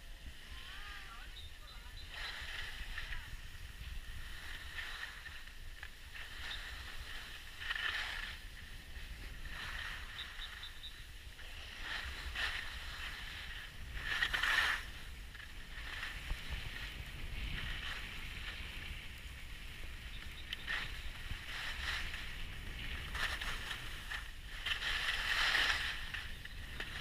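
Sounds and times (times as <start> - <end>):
ski edges scraping over snow: 0.0 - 27.0
wind rumble on microphone: 0.0 - 27.0.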